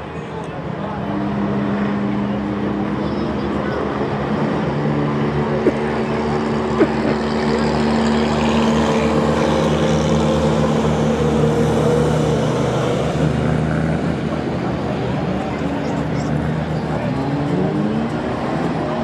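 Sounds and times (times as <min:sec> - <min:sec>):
racing truck engines droning: 0:00.0 - 0:19.0.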